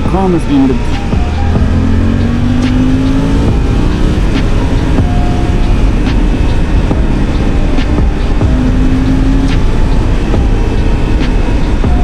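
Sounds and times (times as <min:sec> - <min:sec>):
wind and road rumble: 0:00.0 - 0:12.0
motorcycle engine accelerating: 0:00.8 - 0:12.0.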